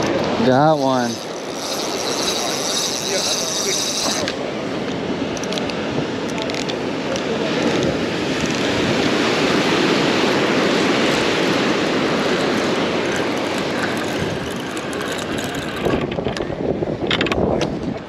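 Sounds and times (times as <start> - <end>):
ocean surf: 0.0 - 17.2.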